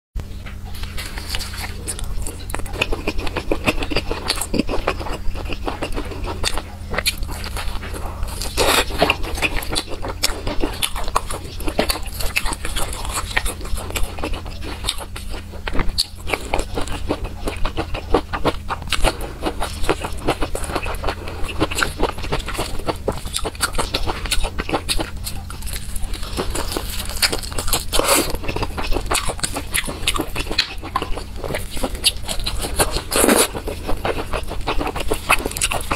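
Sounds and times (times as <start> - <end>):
low steady hum: 0.2 - 35.9
close chewing and mouth clicks: 0.5 - 35.9.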